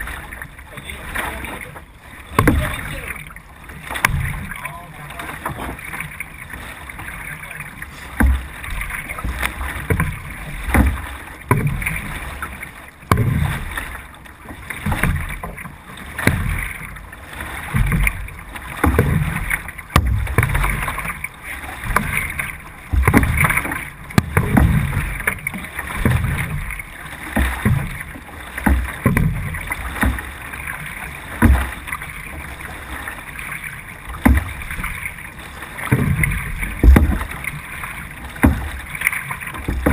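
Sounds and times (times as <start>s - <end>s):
paddle strokes thump and splash: 0.0s - 39.9s
water rushing along hull: 0.0s - 39.9s.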